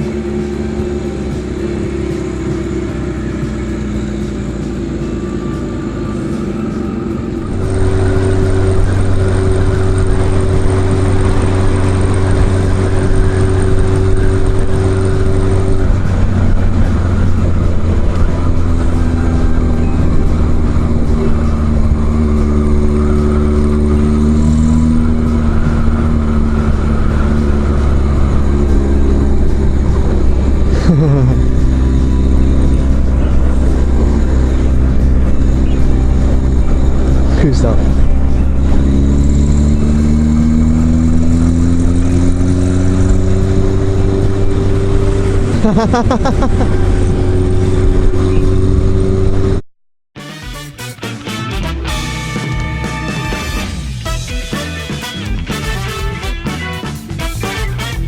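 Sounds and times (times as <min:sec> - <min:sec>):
motorcycle engine running: 0:00.0 - 0:49.6, 0:50.4 - 0:58.0.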